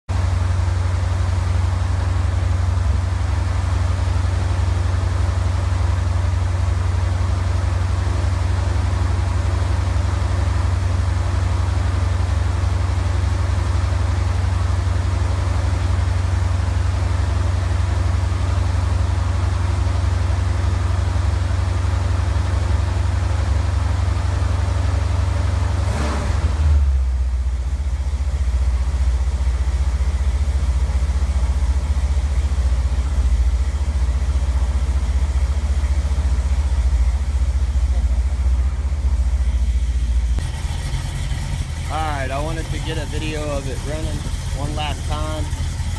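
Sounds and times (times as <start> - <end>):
engine idling with low rumble: 0.0 - 45.9.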